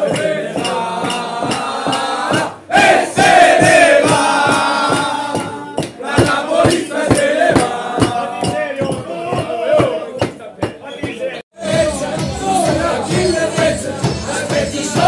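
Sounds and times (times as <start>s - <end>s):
men chanting together: 0.0s - 10.4s, 11.6s - 15.0s
rhythmic hand clapping: 0.0s - 15.0s.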